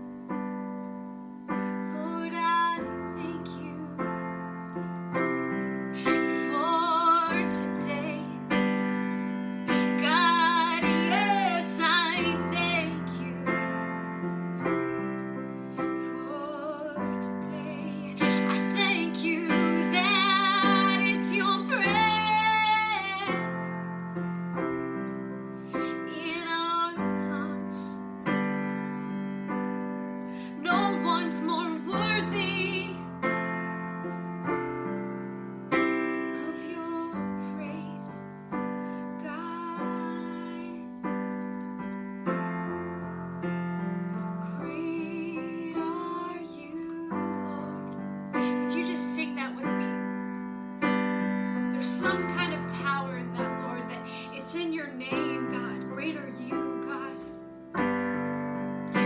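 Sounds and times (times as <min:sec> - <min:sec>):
slow piano chords: 0:00.0 - 0:59.0.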